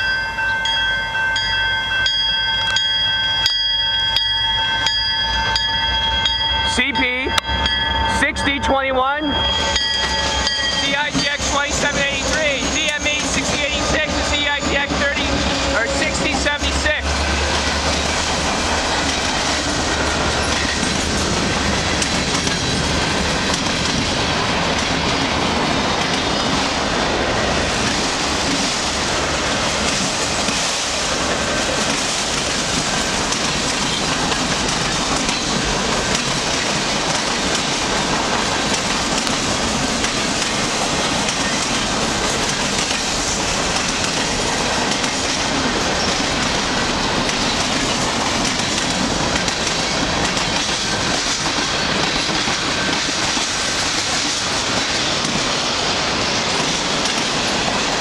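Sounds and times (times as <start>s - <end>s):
steel wheels rushing on rails: 0.0s - 58.0s.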